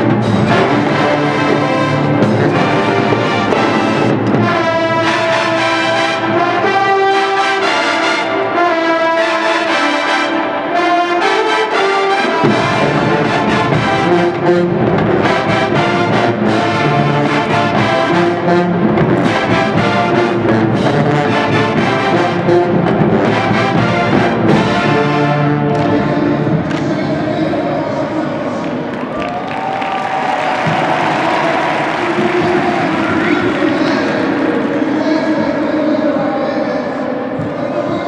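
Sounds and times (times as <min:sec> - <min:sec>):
marching band playing: 0:00.0 - 0:38.0.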